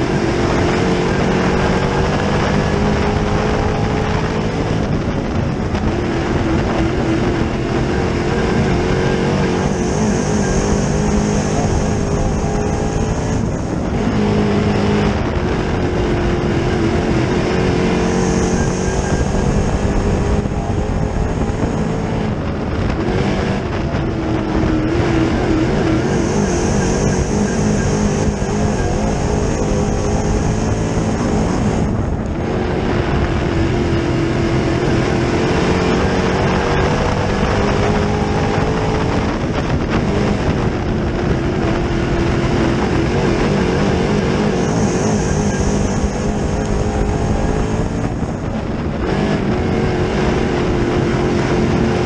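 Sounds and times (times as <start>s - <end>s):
race car engine: 0.0s - 52.0s.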